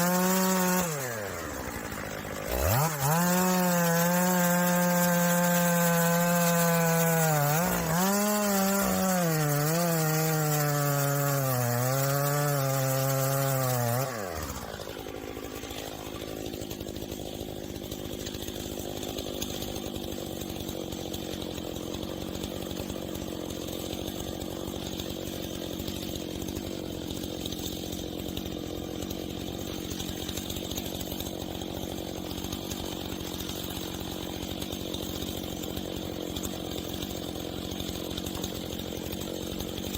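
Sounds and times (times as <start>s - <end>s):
chainsaw running at high revs: 0.0s - 39.9s
rough quieter chainsaw: 0.0s - 39.9s.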